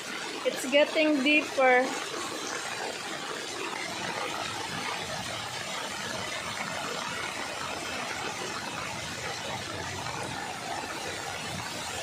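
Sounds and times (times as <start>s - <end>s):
water washing: 0.0s - 12.0s.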